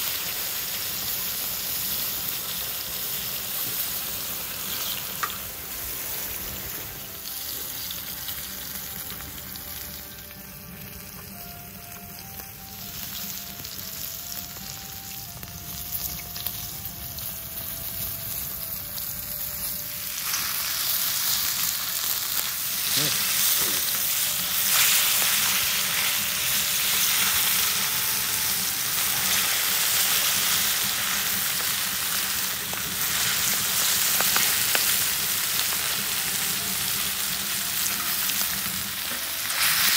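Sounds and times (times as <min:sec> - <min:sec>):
meat sizzling on griddle: 0:00.0 - 0:39.9.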